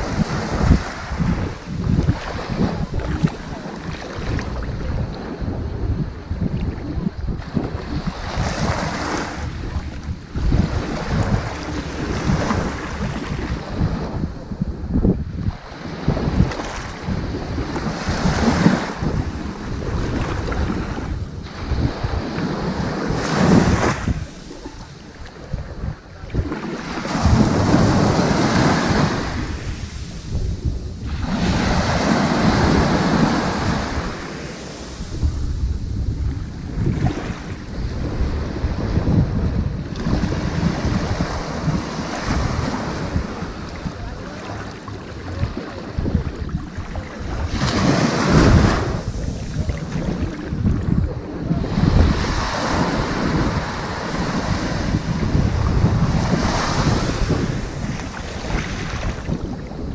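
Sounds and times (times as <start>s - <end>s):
ocean waves washing onto beach: 0.0s - 59.9s
wind on microphone: 0.0s - 59.9s.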